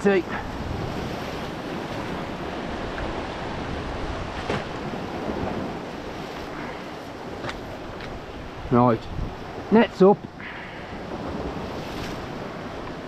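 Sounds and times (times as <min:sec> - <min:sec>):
surf on rocky shore: 0:00.0 - 0:13.0
wind buffeting microphone: 0:00.0 - 0:13.0.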